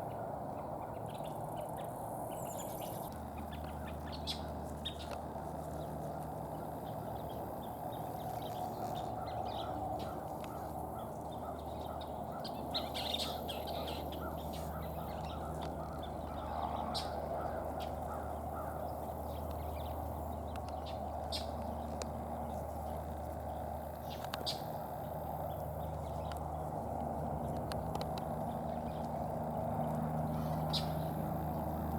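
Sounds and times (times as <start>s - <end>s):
birds calling: 0.0s - 31.9s
steady background noise: 0.0s - 31.9s.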